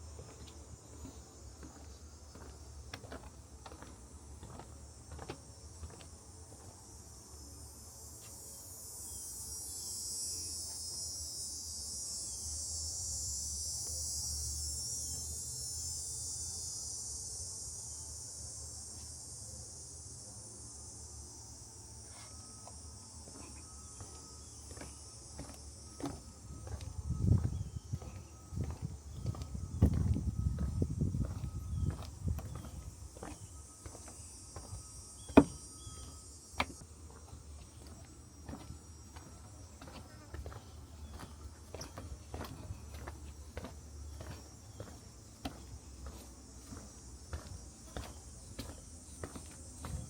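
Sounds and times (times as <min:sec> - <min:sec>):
cicada buzzing: 0:00.0 - 0:50.0.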